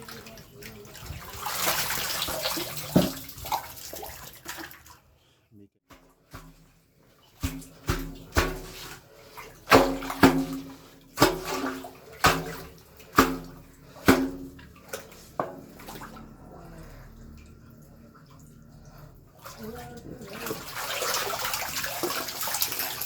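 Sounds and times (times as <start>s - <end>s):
water splashing in a manhole: 0.0s - 5.0s, 6.0s - 23.0s
water sloshing: 0.0s - 5.2s, 5.9s - 23.0s.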